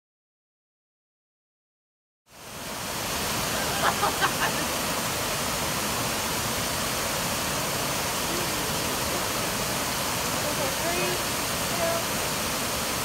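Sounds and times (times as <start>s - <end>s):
fountain water rushing over steps: 2.3s - 13.0s.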